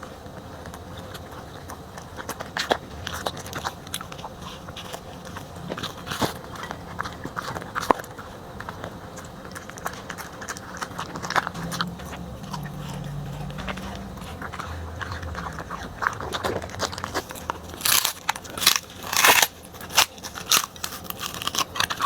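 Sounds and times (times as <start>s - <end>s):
dog chewing food: 0.0s - 22.0s.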